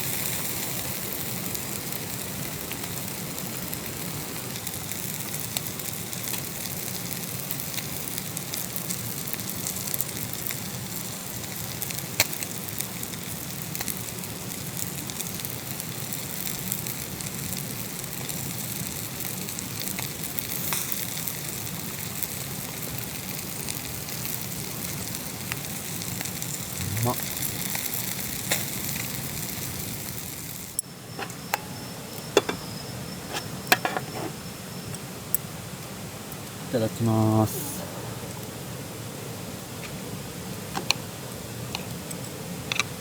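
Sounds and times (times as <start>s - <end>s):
burning wood crackling and popping: 0.0s - 43.0s
food sizzling: 0.0s - 43.0s.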